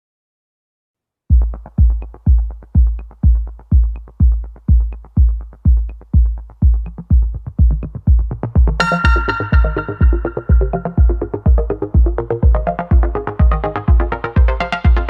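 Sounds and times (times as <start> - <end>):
electronic dance music: 1.3 - 15.0
kick drum beat: 1.3 - 15.0.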